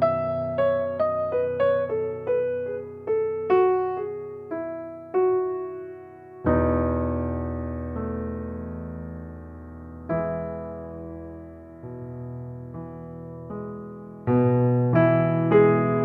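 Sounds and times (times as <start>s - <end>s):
slow electric piano melody: 0.0s - 16.0s.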